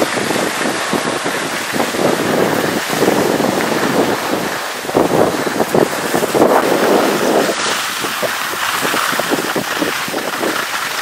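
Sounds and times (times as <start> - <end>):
skis scraping over snow: 0.0 - 11.0
wind on microphone: 0.0 - 11.0.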